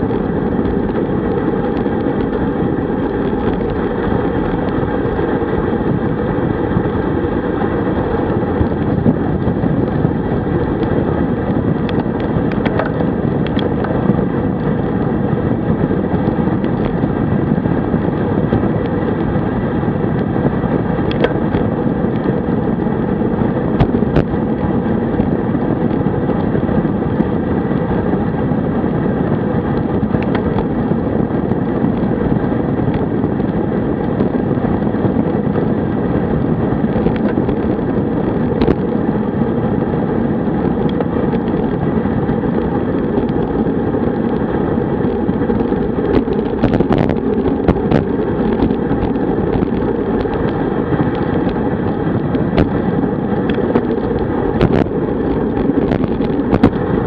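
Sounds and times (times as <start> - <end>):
bike tyres rolling on asphalt: 0.0 - 57.0
wind over microphone: 0.0 - 57.0.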